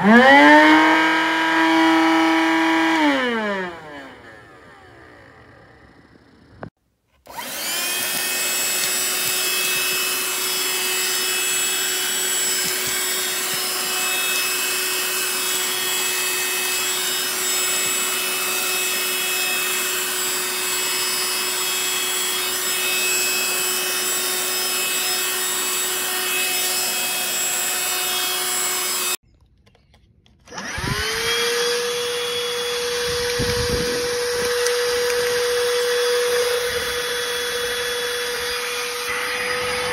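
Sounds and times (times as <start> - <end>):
handheld vacuum motor whine: 0.0 - 29.2, 30.4 - 39.9.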